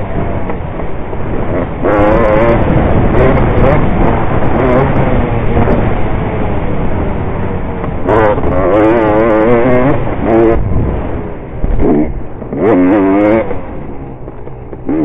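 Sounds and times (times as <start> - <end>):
wind rushing: 0.0 - 12.6
motorbike engine revving: 0.0 - 15.0.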